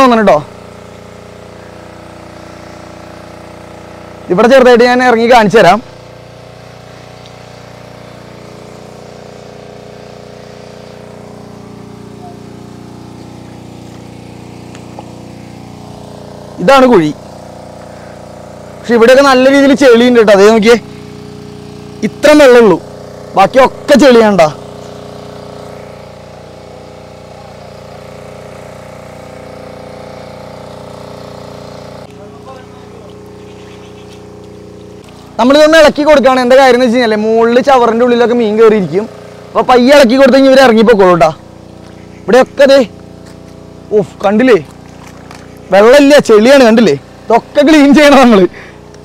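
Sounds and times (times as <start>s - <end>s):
water pump motor humming: 0.0s - 49.0s.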